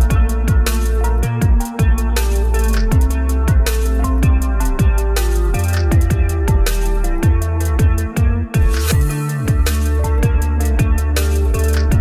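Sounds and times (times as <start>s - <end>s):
drum and bass music: 0.0s - 12.0s.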